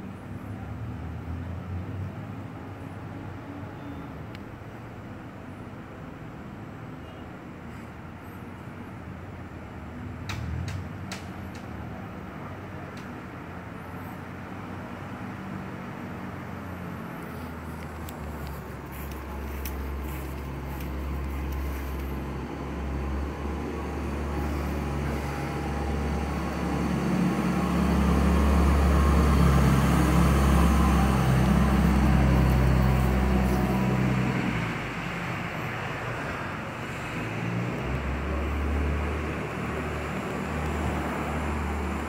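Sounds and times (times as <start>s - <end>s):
vehicle engine rumble: 0.0s - 42.0s.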